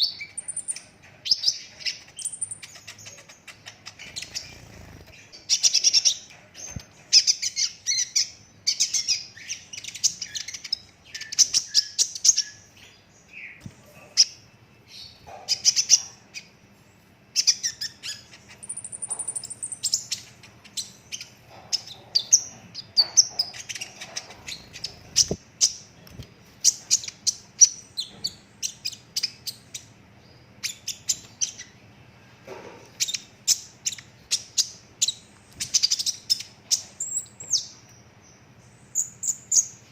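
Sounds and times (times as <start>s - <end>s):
sunbird singing rapid chirps: 0.0s - 16.6s, 17.3s - 26.0s, 33.0s - 39.9s.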